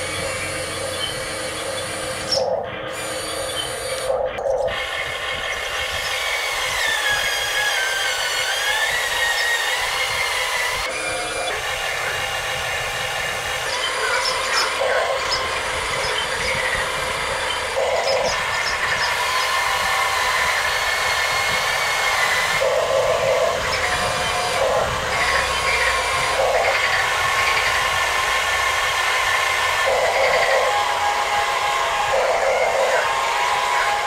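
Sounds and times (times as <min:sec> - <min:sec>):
electric motors whining: 0:00.0 - 0:34.0.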